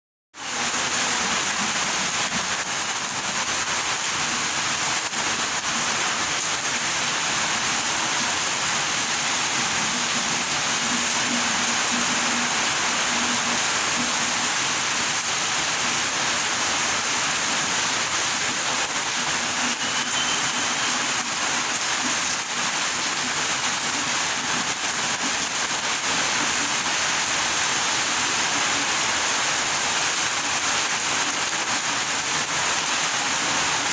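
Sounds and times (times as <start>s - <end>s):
steady rain falling: 0.4s - 33.9s.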